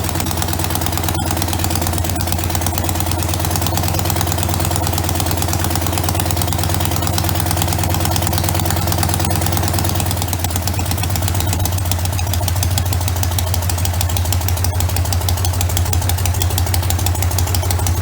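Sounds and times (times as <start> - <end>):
stationary engine running: 0.0 - 18.0.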